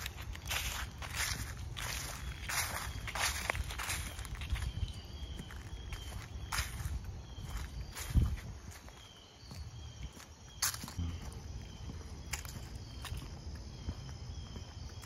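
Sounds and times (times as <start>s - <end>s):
faint insects chirping: 0.0s - 15.0s
footsteps crunching: 0.0s - 15.0s.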